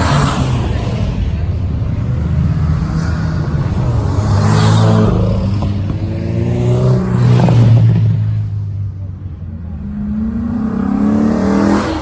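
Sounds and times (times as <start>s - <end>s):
car engine revving: 0.0s - 8.7s, 9.6s - 12.0s.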